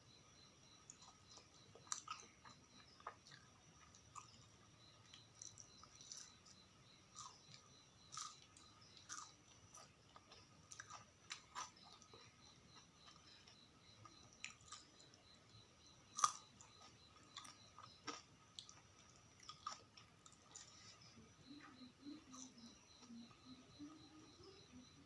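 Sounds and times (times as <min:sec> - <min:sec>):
mouth chewing food: 0:00.8 - 0:24.4.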